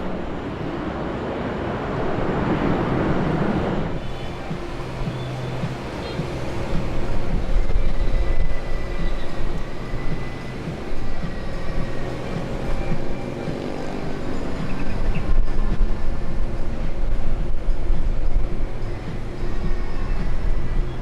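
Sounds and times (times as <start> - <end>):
jet engines rumbling: 0.0 - 21.0
faint high whine: 4.0 - 21.0.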